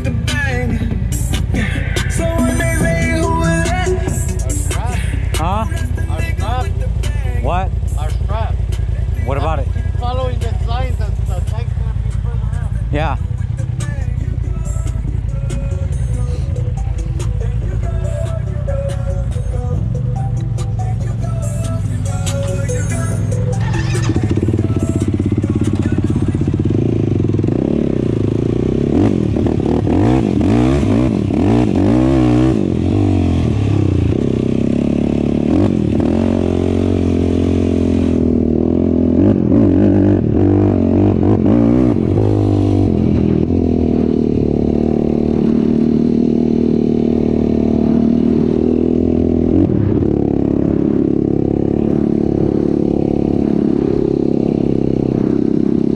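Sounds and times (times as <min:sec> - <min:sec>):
off-road vehicle engine: 0:00.0 - 0:55.9.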